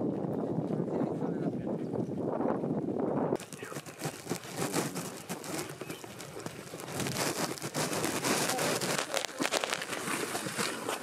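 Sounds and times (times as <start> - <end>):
footsteps of several people: 0.0 - 8.8.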